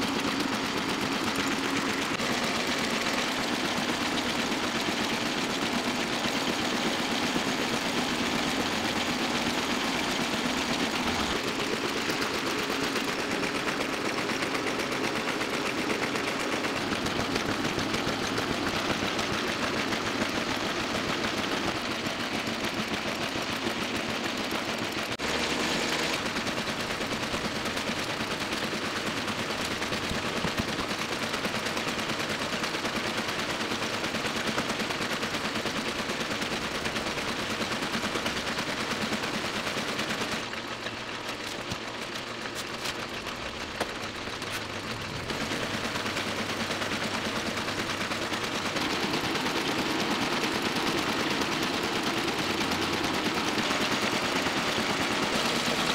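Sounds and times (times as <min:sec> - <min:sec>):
printing press clattering: 0:00.0 - 0:55.9.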